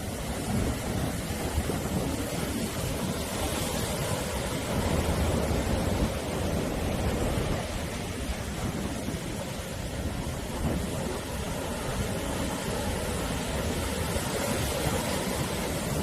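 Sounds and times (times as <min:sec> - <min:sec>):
sea waves breaking on shore: 0:00.0 - 0:16.0.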